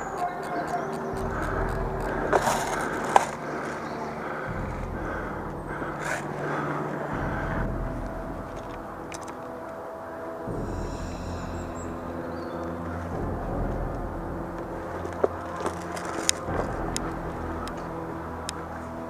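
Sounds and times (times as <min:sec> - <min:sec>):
gear scraping and rustling: 0:00.0 - 0:09.4, 0:12.9 - 0:19.0.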